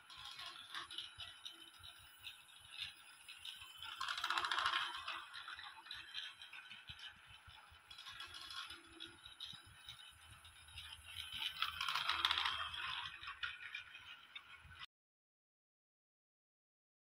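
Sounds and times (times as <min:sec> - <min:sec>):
toy train rattling on track: 0:00.0 - 0:14.9.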